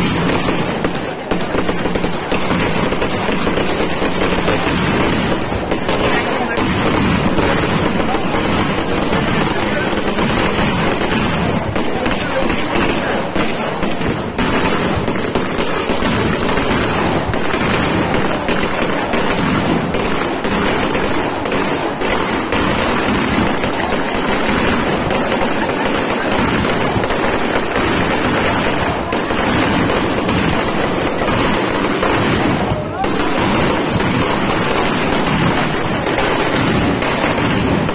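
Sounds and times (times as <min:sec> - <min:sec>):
firecrackers crackling: 0:00.0 - 0:37.9.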